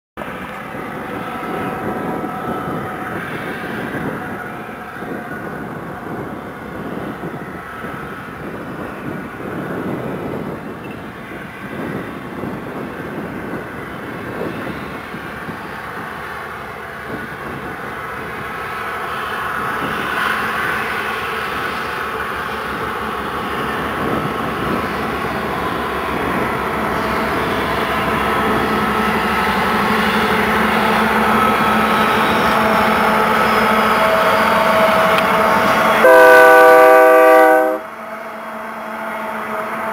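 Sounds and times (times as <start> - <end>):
diesel locomotive engines: 0.2 - 39.9
train cars rolling on rails: 0.2 - 39.9.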